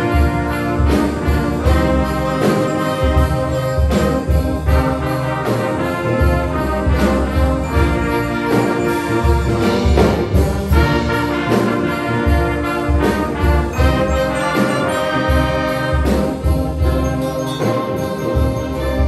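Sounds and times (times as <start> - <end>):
concert wind band playing: 0.0 - 19.0
shaken sleigh bells ringing: 0.0 - 19.0.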